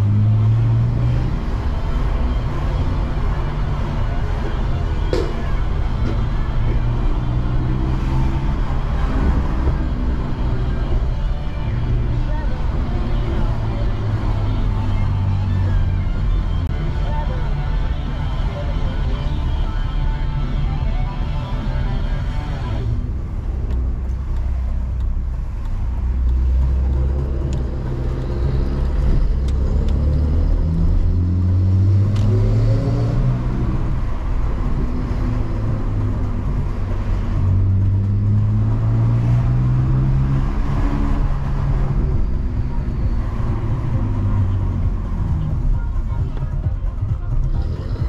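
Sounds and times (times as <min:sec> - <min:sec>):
car engine accelerating: 0:00.0 - 0:48.0
road noise inside car: 0:00.0 - 0:48.0.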